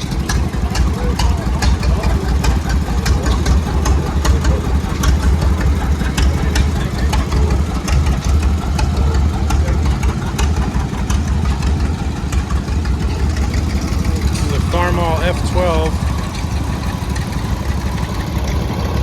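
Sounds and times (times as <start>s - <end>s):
old engines running: 0.0s - 19.0s
sharp ticks and clatter: 0.0s - 19.0s.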